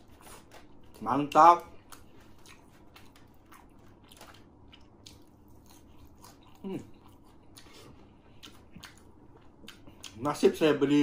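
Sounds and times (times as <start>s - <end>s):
person chewing crispy food: 0.0s - 10.3s.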